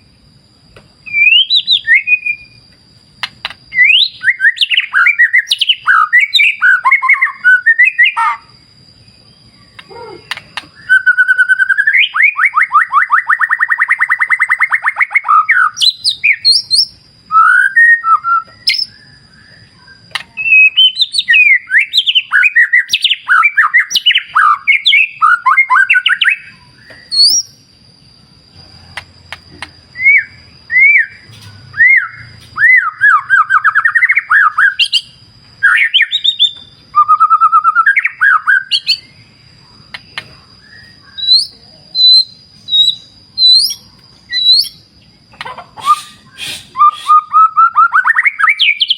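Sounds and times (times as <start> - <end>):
bird singing whistled phrases: 1.0 - 2.6, 3.7 - 8.5, 9.6 - 27.6, 30.0 - 39.2, 40.6 - 44.9, 45.8 - 48.9.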